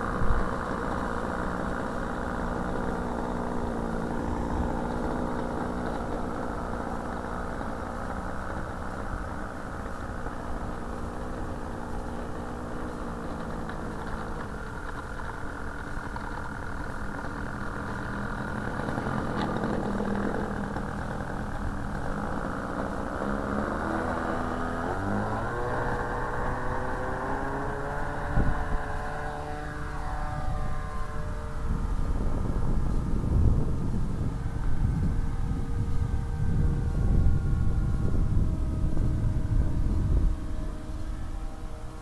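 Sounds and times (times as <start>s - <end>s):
model airplane engine and propeller: 0.0s - 42.0s
wind rumble on microphone: 0.0s - 42.0s.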